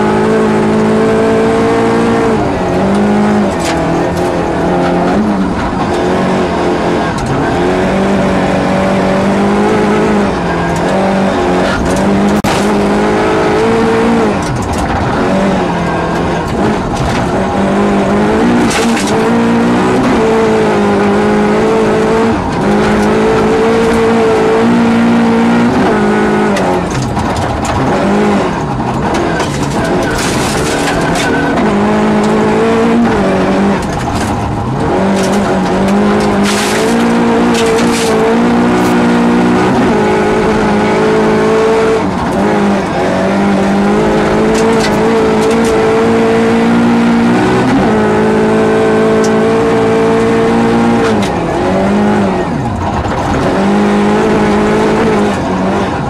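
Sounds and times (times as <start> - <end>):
gravel rattling against car: 0.0 - 56.0
rally car engine revving: 0.0 - 56.0.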